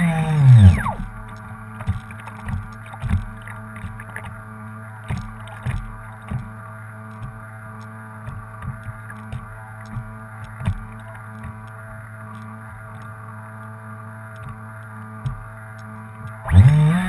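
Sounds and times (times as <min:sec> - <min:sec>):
waves slapping against boat hull: 0:00.0 - 0:13.1, 0:14.4 - 0:17.0
steady low hum: 0:00.0 - 0:17.0.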